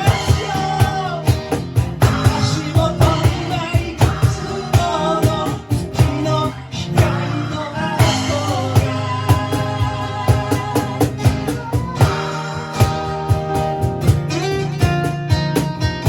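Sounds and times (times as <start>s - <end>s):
bass: 0.0s - 16.0s
guitar: 0.0s - 16.0s
steady drum beat: 0.0s - 16.0s.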